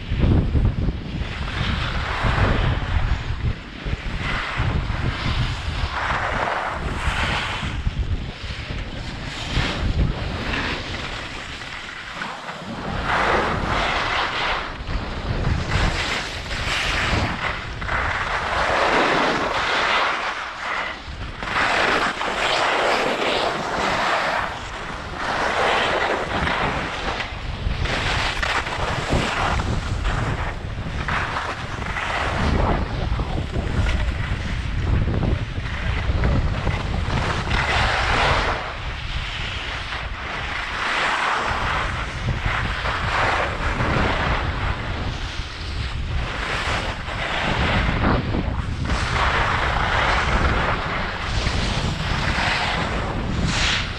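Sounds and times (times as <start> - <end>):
wind buffeting microphone: 0.0 - 53.9
skis scraping packed snow: 0.1 - 53.9.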